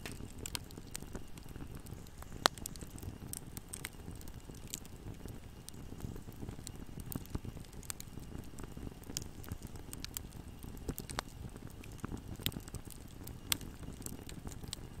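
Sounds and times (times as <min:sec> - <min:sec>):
flames roaring low: 0:00.0 - 0:15.0
logs crackling and popping: 0:00.0 - 0:15.0.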